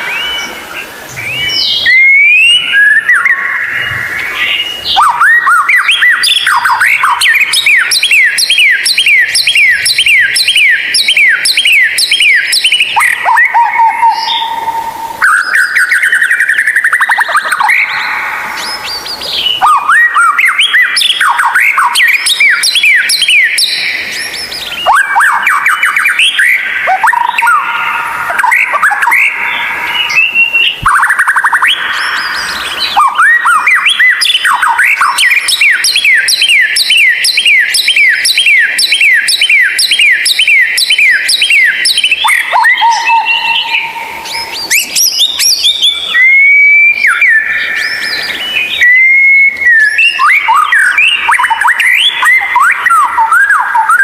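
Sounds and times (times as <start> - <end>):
songbird singing varied song: 0.0 - 54.0.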